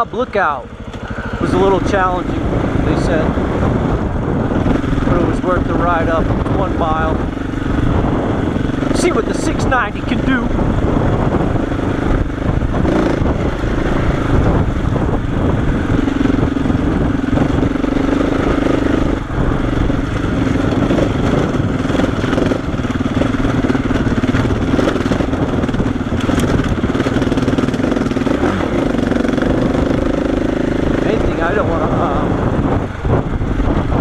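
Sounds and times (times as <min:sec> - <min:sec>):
motorcycle engine under load: 0:00.0 - 0:34.0.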